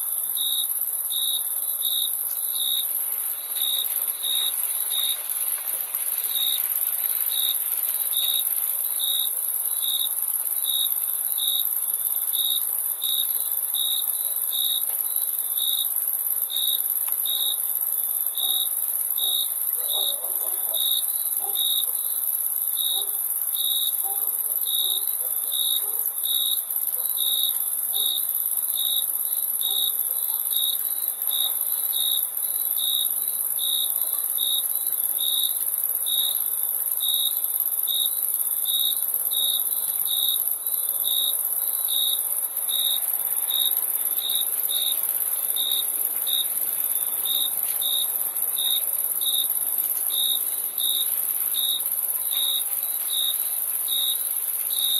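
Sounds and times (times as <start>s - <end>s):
continuous cricket trill: 0.0s - 54.9s
loud regular cricket chirps: 0.0s - 54.9s.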